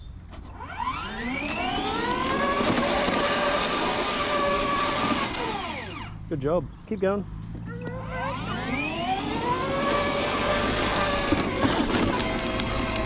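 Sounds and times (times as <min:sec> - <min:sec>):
electric motor whine: 0:00.5 - 0:06.2, 0:08.0 - 0:13.0.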